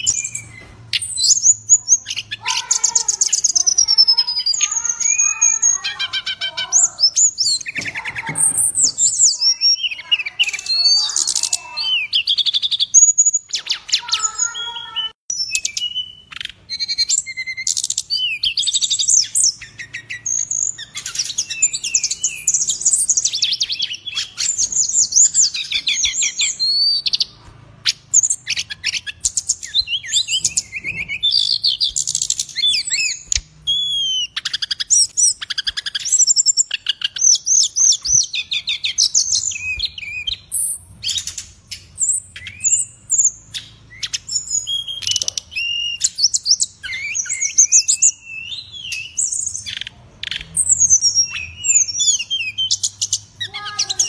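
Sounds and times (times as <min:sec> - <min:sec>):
bird singing whistled trills: 0:00.0 - 0:06.0, 0:08.6 - 0:54.0.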